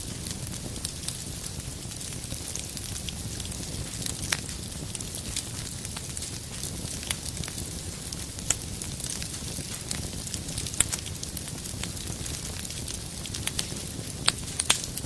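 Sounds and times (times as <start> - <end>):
firewood crackling and popping: 0.0 - 15.0
wood fire rumbling: 0.0 - 15.0.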